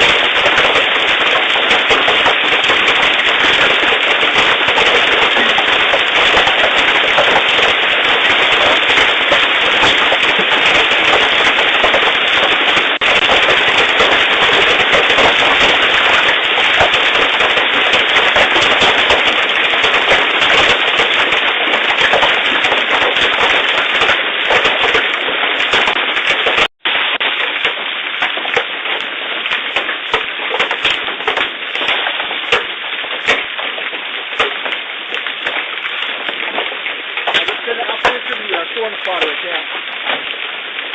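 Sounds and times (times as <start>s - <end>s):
hailstones hitting hard surfaces: 0.0s - 40.9s.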